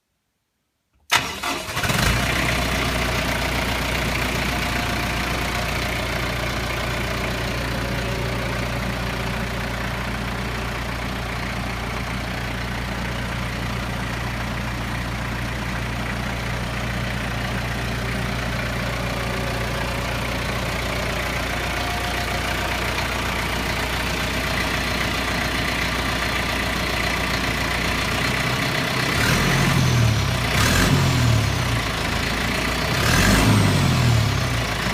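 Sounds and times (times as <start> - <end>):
diesel engine starting and idling: 1.1 - 34.9.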